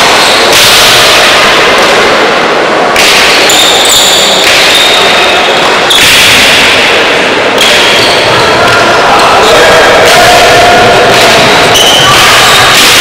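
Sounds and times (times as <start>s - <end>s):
ball hitting a wall in a hall: 0.0s - 13.0s.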